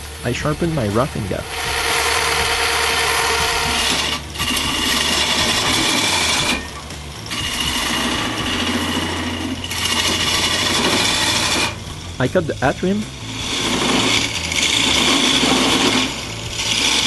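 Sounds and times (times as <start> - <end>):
gouge scraping spinning wood: 0.0 - 17.0
steady motor hum: 0.0 - 17.0.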